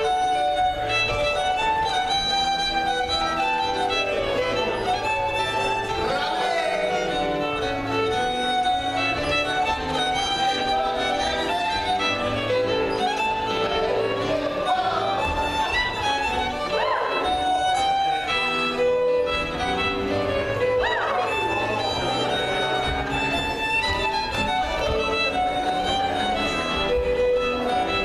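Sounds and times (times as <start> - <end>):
fiddle playing dance tune: 0.0 - 28.0
keyboard accompaniment: 0.0 - 28.0.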